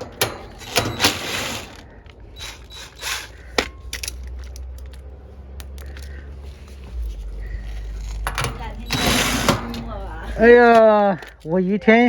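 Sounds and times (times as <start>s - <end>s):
hand tools clicking and ratcheting: 0.0s - 11.6s.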